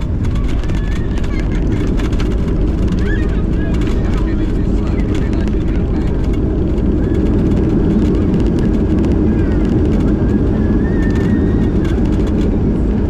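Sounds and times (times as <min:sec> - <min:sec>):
airliner engine drone: 0:00.0 - 0:13.0
rushing air: 0:00.0 - 0:13.0.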